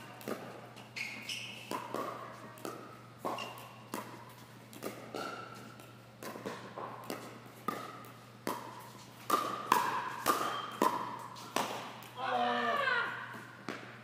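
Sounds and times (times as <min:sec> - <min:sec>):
ball bouncing on court: 0:00.1 - 0:12.2, 0:13.3 - 0:14.0.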